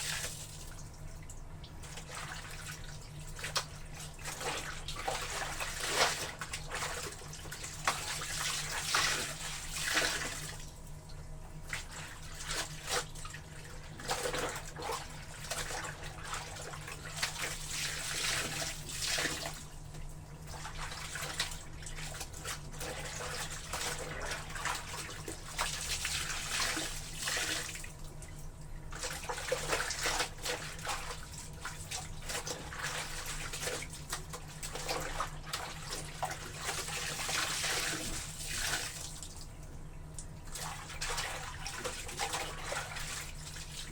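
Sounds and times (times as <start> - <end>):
water sloshing in a tub: 0.0 - 43.9.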